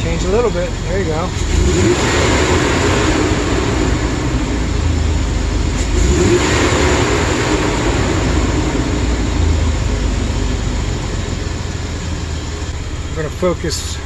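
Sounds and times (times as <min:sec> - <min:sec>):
van engine misfiring: 0:00.0 - 0:14.0.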